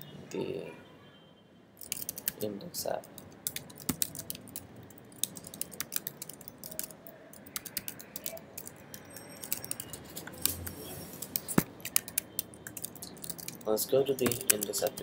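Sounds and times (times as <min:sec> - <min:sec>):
keyboard typing clicks: 0:01.8 - 0:02.4, 0:03.0 - 0:15.0.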